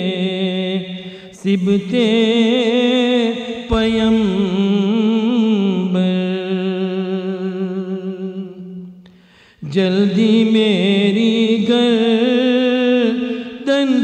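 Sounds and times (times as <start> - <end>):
man chanting with vibrato: 0.0 - 8.8, 9.6 - 14.0.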